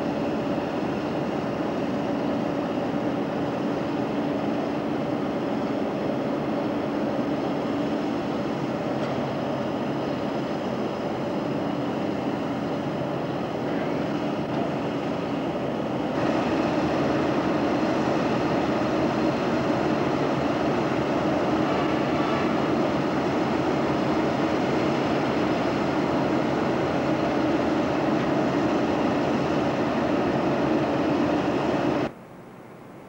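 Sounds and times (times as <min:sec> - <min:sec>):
diesel locomotive engines droning: 0:00.0 - 0:33.0.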